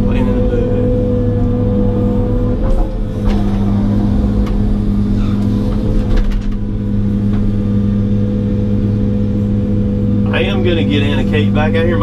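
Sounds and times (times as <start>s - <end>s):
excavator diesel engine: 0.0s - 12.0s.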